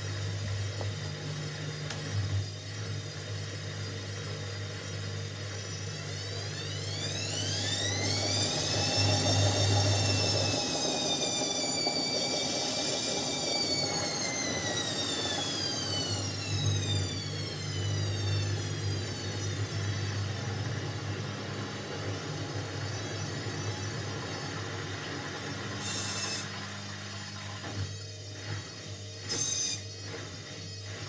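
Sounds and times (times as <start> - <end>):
washing machine motor whining: 0.0 - 31.0.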